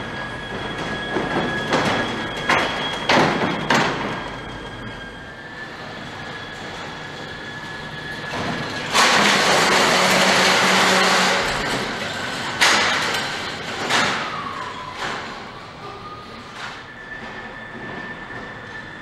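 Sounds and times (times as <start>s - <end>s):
trolley castors rattling and clattering: 0.0s - 19.0s.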